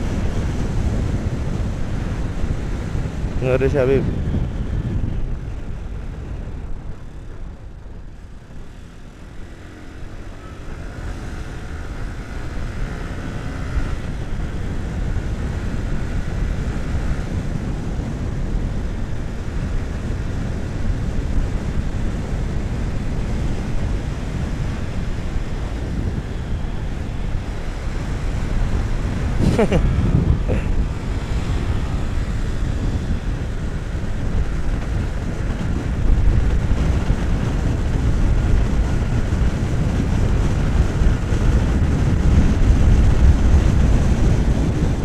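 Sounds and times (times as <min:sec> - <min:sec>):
motorcycle engine: 0:00.0 - 0:45.0
wind rushing over microphone: 0:00.0 - 0:45.0.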